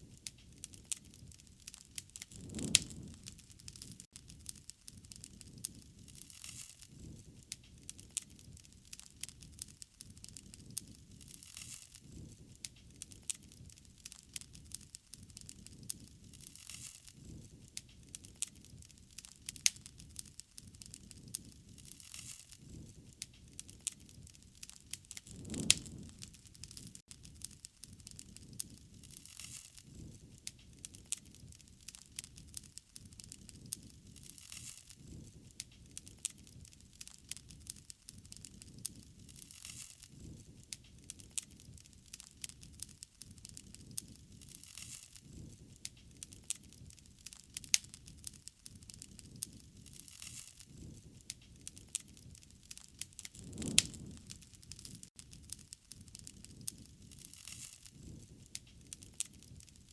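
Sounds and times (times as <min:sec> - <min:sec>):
rushing of flame: 0:00.0 - 0:59.8
wood fire crackling and popping: 0:00.0 - 0:59.9.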